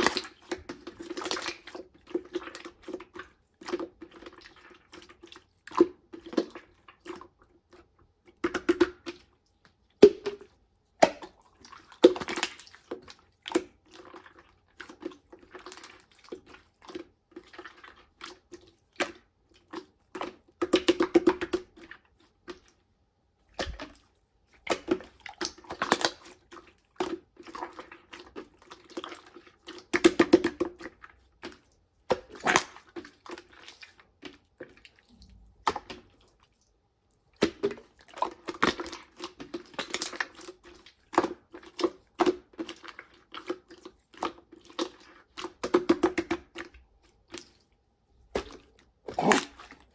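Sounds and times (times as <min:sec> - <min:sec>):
slime squelching: 0:00.0 - 0:49.9.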